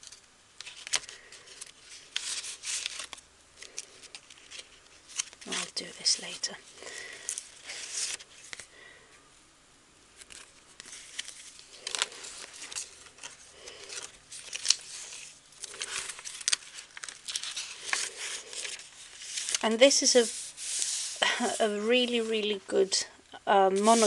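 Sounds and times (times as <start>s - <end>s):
paper pages rustling: 0.0s - 8.7s, 10.2s - 22.6s, 23.7s - 24.0s.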